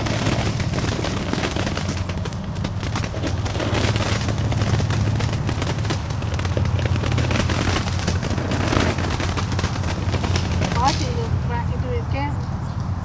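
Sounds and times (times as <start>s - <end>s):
fireworks crackling and popping: 0.0s - 12.0s.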